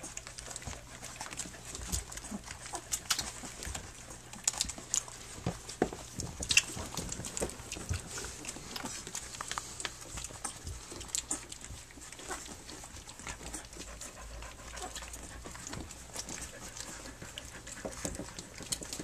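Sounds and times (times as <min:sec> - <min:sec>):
dog panting: 0:00.0 - 0:19.0
puppies suckling: 0:00.0 - 0:19.0.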